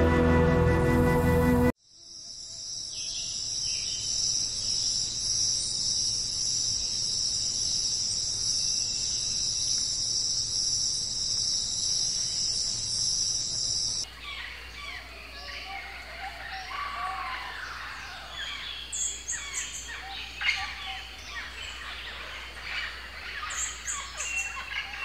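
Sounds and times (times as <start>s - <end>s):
high-pitched insect chorus: 1.8s - 25.0s.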